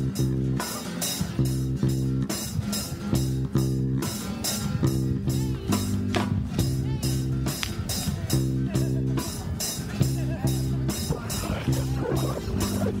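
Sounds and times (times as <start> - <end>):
instrumental guitar bass and drums: 0.0 - 13.0.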